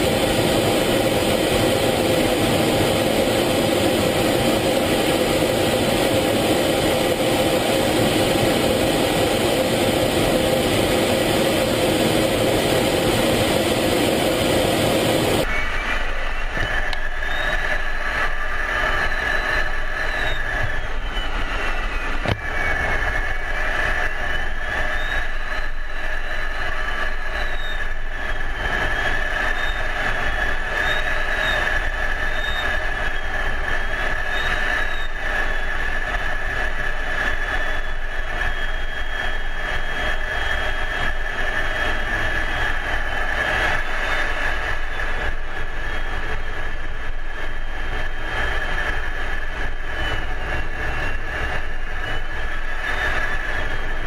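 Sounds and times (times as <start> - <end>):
constant high tone: 0.0 - 54.0
high whine drifting in pitch: 0.0 - 54.0
jet cockpit engine and air noise: 0.0 - 54.0.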